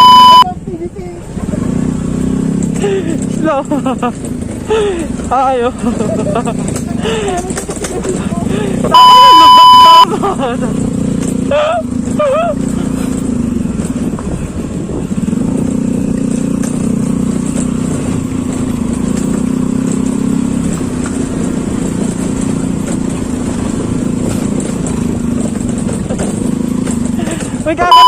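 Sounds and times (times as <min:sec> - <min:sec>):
scooter engine running: 0:00.0 - 0:28.0.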